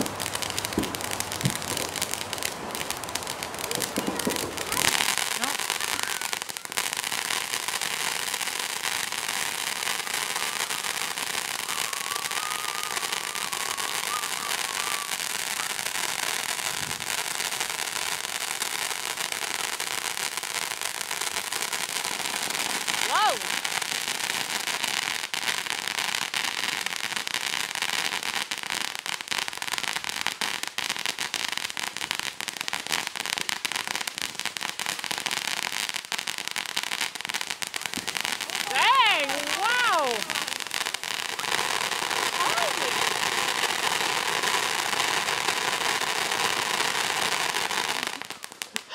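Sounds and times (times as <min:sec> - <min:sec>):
firework fountain hissing crackle: 0:00.0 - 0:48.9.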